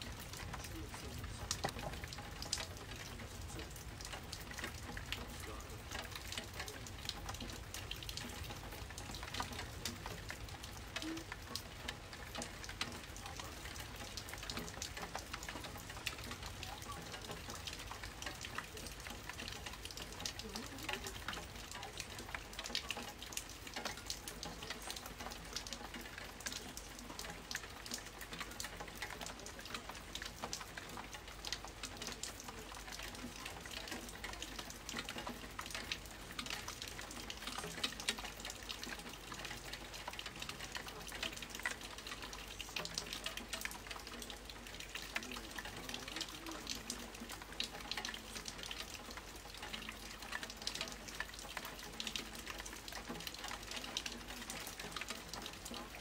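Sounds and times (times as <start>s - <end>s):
raindrops crackling close by: 0.0s - 56.0s
steady rain falling: 0.0s - 56.0s.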